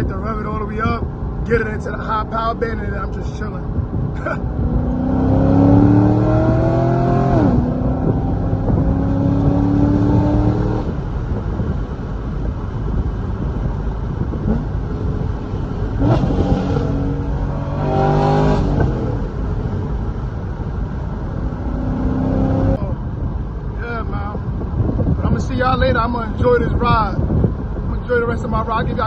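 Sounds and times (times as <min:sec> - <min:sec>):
car engine accelerating hard: 0:00.3 - 0:23.8.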